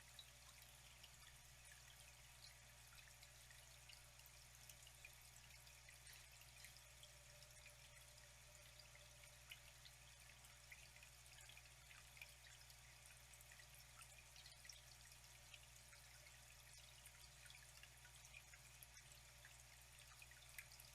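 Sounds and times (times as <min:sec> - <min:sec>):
faint flowing water: 0:00.0 - 0:20.9
water drips and trickles: 0:00.0 - 0:20.9.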